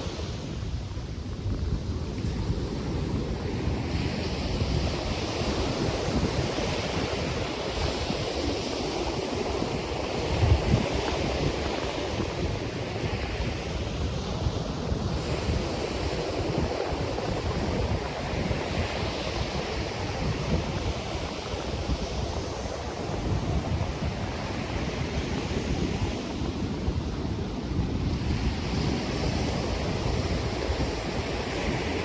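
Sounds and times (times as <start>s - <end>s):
ocean surf washing onto beach: 0.0s - 32.0s
wind rumbling on microphone: 0.0s - 32.0s.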